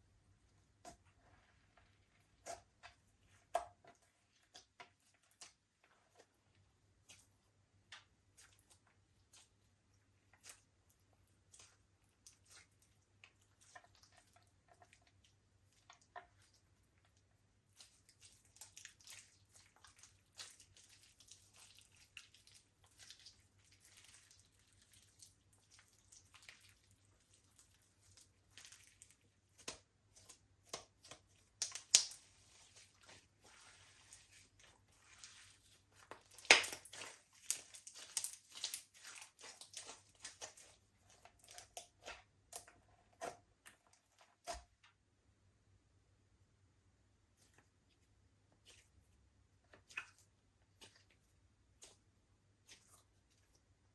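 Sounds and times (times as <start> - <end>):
slime squelching by hand: 0.6 - 44.9, 47.2 - 53.9.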